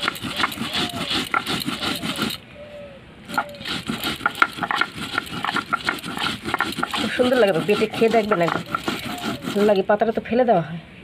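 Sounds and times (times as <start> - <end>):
stone grinding roller scraping: 0.0 - 2.4, 3.2 - 10.2.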